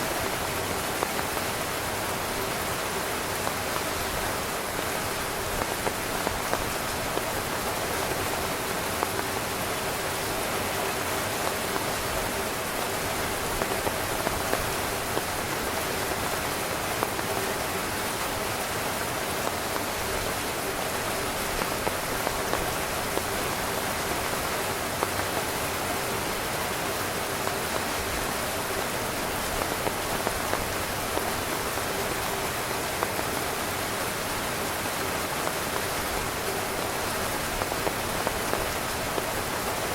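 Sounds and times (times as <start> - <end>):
heavy rain on a tent: 0.0 - 39.9
raindrops tapping on fabric: 0.0 - 39.9.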